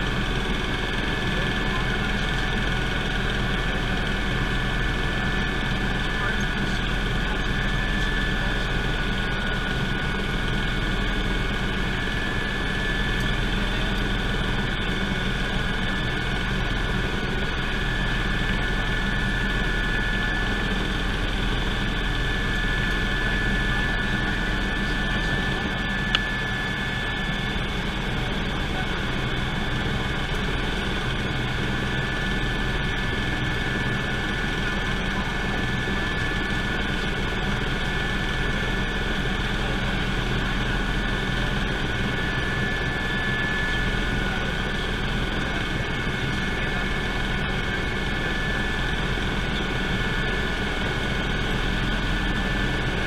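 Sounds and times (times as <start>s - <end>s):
helicopter rotor rumble: 0.0s - 53.0s
helicopter turbine whine: 0.0s - 53.0s.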